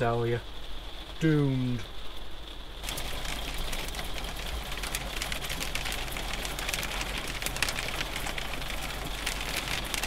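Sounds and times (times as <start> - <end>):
sleet and hail on windscreen: 0.7 - 10.0.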